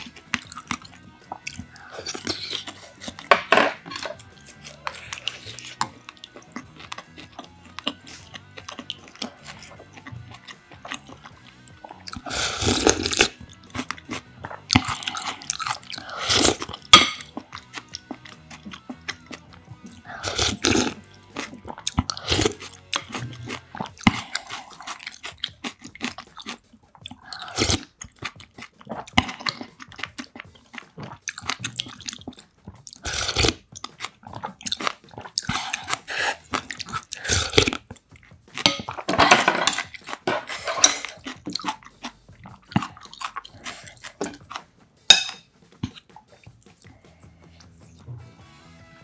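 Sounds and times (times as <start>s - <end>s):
slurping soup from a spoon: 0.0s - 44.7s
wet crunchy chewing: 0.0s - 48.0s.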